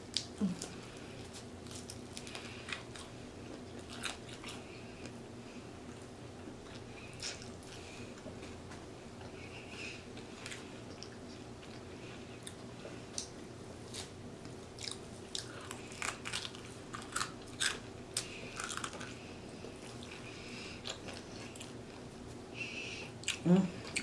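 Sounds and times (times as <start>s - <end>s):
person chewing and eating: 0.0s - 5.2s, 5.8s - 24.0s
faint steady hum: 0.0s - 24.0s.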